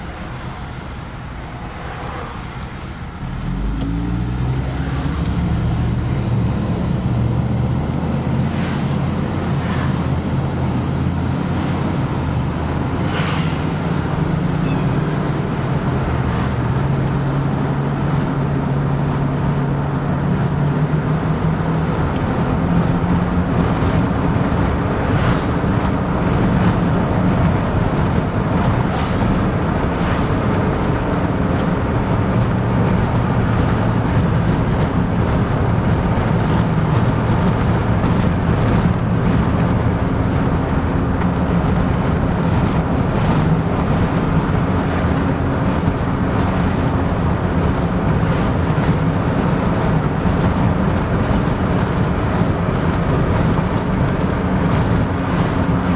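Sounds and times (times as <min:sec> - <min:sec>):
road noise: 0:00.0 - 0:55.9
vehicle engine drone: 0:00.0 - 0:55.9.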